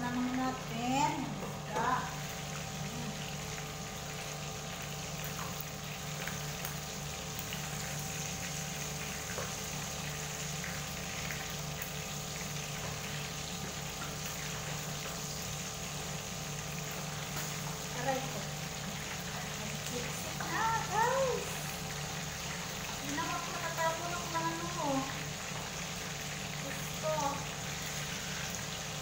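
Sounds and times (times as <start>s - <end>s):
fish sizzling in hot oil: 0.0s - 29.0s.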